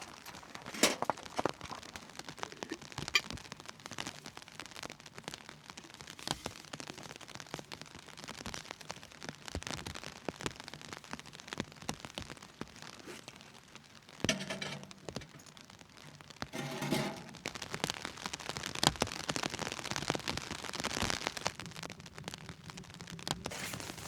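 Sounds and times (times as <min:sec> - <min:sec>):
rain on a tent: 0:00.0 - 0:24.0
sharp pops and crackles: 0:00.0 - 0:24.0.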